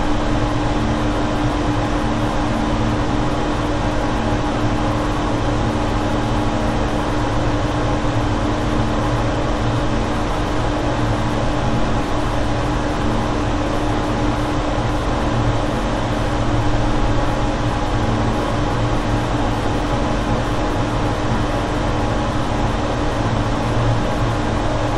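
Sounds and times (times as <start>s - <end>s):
mechanical hum: 0.0s - 24.9s
ventilation machinery hiss: 0.0s - 24.9s.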